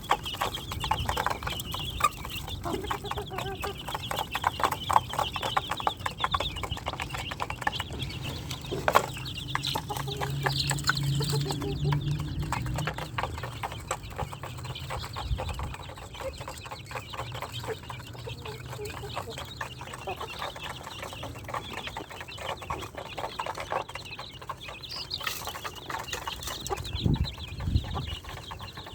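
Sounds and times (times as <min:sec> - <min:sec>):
chickens clucking: 0:00.0 - 0:28.9.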